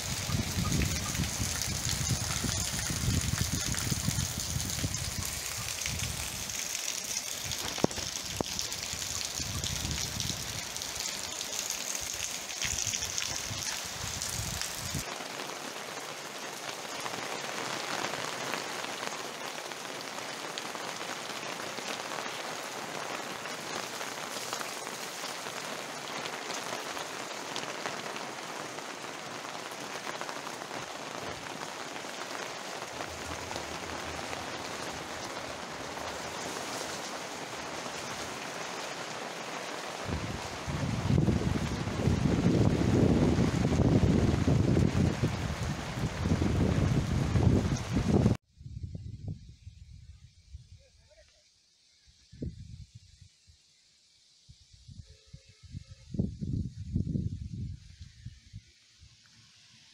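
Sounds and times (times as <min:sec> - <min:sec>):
rain falling on ground and puddles: 0:00.0 - 0:48.4
rain hissing heard from under roof: 0:00.0 - 0:48.5, 0:50.8 - 0:59.9.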